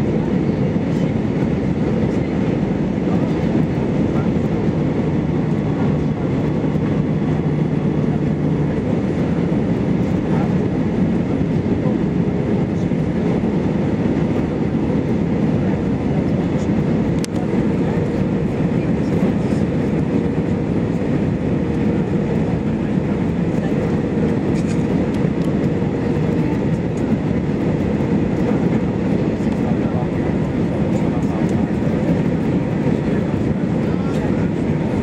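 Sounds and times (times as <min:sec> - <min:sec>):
airplane cabin engine rumble: 0:00.0 - 0:35.0.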